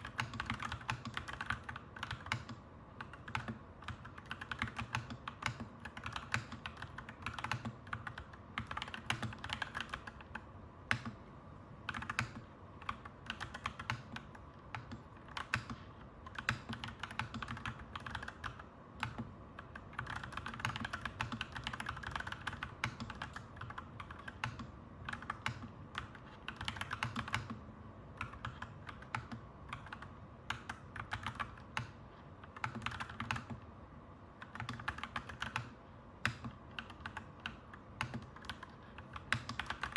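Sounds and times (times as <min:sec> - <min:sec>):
mechanical keyboard typing: 0:00.0 - 0:11.2, 0:11.8 - 0:33.7, 0:34.4 - 0:39.9
low background hum: 0:00.0 - 0:39.9.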